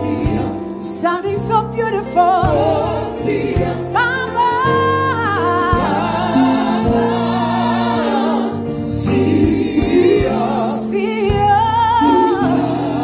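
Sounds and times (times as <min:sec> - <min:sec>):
voices singing in harmony: 0:00.0 - 0:01.2, 0:02.2 - 0:13.0.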